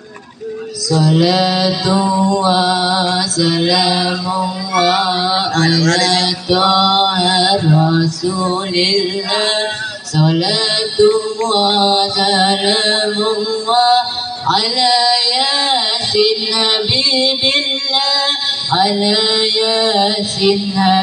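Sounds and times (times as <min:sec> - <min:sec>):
person singing devotional song: 0:00.0 - 0:21.0.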